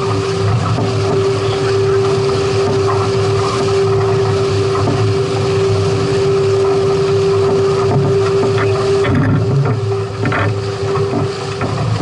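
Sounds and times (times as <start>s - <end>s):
boat motor humming: 0.0s - 12.0s
water noise: 0.0s - 12.0s
wind: 0.0s - 12.0s.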